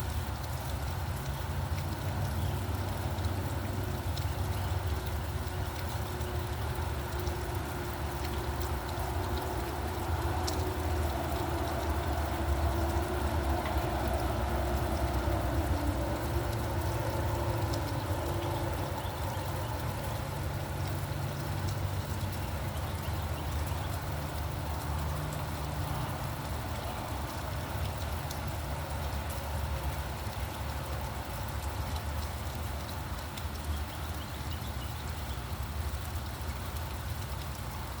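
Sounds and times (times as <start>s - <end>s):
road traffic rumble: 0.0s - 38.0s
steady rain: 0.0s - 38.0s.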